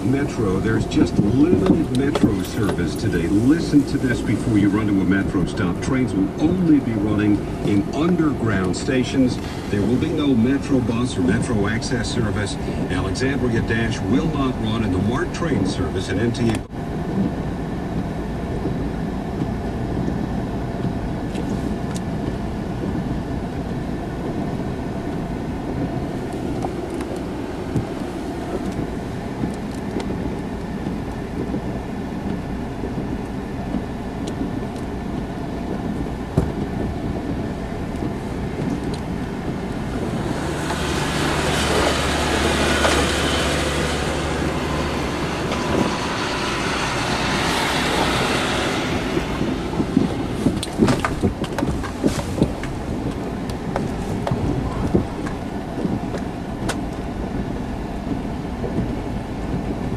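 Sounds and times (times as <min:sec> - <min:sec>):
car engine and road rumble: 0:00.0 - 0:59.9
rushing noise: 0:00.0 - 0:59.9.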